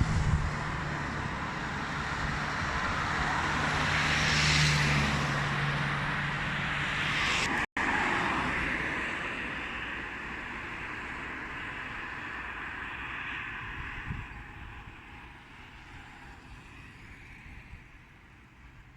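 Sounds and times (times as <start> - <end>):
jet aircraft engine roar: 0.0 - 17.1.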